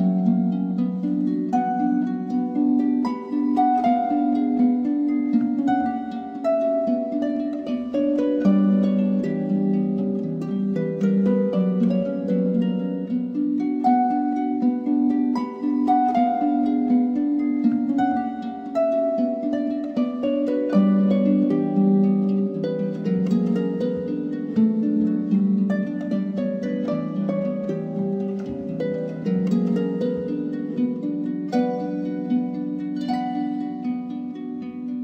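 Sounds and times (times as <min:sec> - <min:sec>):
harp-like plucked string melody: 0:00.0 - 0:35.0.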